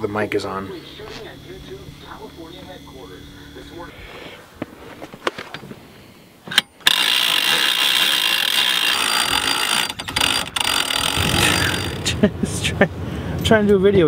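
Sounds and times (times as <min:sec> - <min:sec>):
loud steady mechanical noise: 0:00.0 - 0:12.6.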